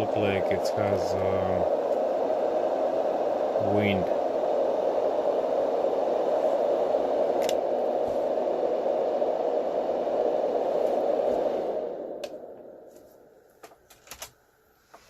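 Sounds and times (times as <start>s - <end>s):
fan rushing air: 0.0s - 15.0s.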